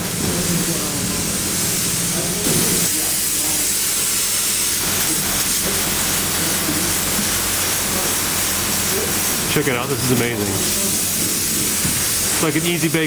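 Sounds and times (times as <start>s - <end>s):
spray foam gun hissing: 0.0s - 13.0s.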